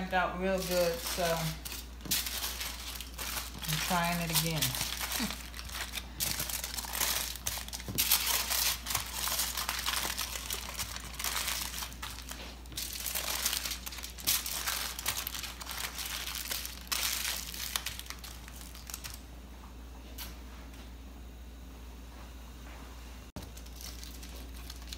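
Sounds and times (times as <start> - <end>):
aluminum foil crinkling: 0.0 - 19.2, 23.4 - 24.9.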